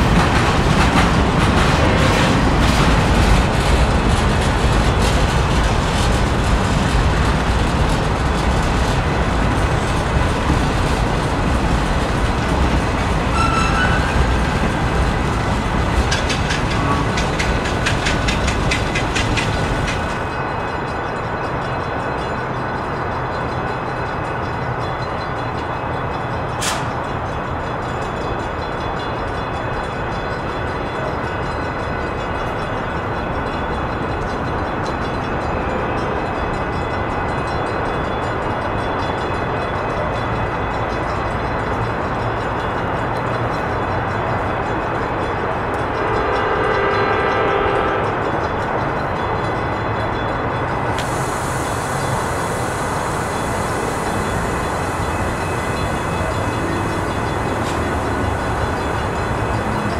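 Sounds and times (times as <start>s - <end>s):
freight cars rumbling past: 0.0s - 59.9s
wheels clicking over rail joints: 0.0s - 59.9s.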